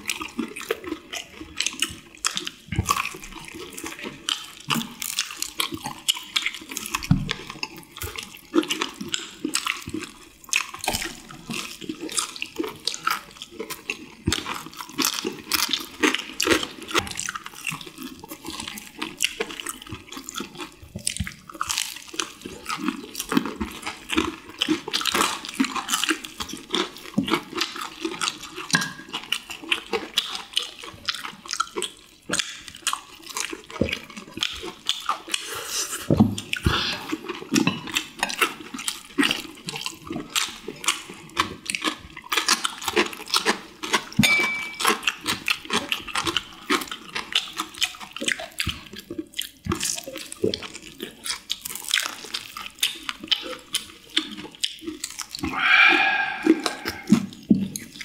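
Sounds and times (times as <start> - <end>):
people chewing crunchy chicken: 0.0 - 56.4, 57.0 - 58.0.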